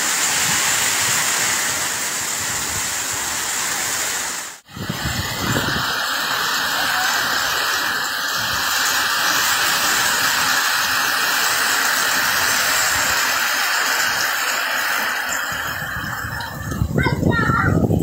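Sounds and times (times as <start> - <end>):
heavy rain on pavement: 0.0 - 18.0.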